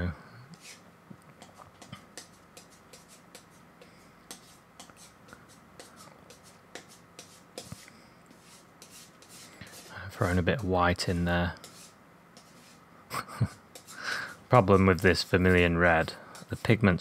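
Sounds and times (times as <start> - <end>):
palette knife scraping on wood: 1.4 - 12.8, 13.5 - 17.0.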